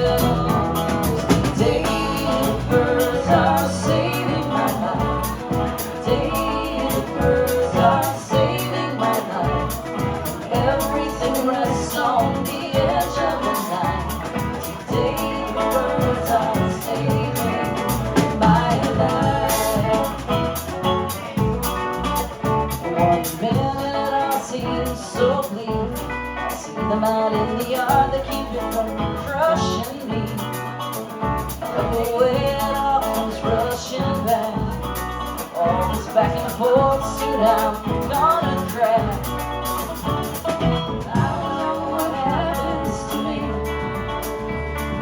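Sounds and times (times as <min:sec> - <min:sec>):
guitar: 0:00.0 - 0:45.0
live band playing: 0:00.0 - 0:45.0.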